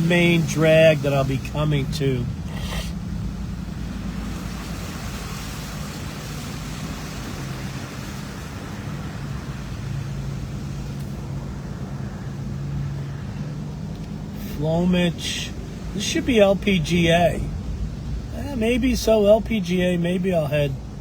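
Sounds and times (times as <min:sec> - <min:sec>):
low engine hum: 0:00.0 - 0:21.0
tyre and road noise: 0:00.0 - 0:21.0.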